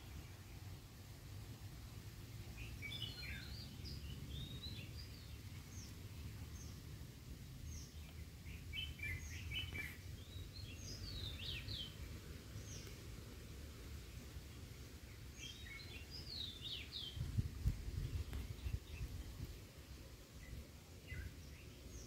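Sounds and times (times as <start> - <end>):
birds chirping: 2.5 - 6.9, 7.6 - 13.2, 13.8 - 22.0.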